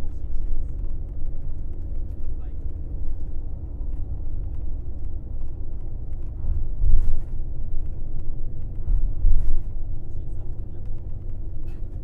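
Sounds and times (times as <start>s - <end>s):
bus engine and road rumble: 0.0s - 12.0s
bus jolts: 0.0s - 12.0s.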